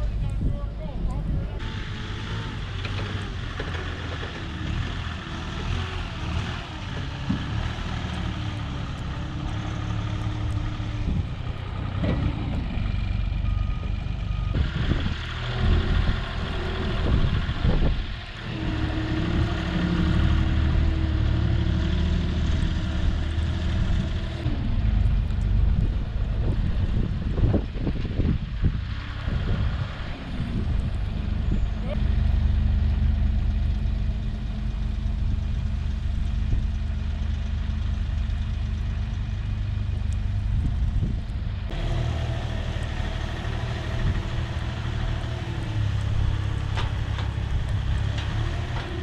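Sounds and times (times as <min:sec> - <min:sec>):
vehicle engine revving: 0:01.6 - 0:49.0.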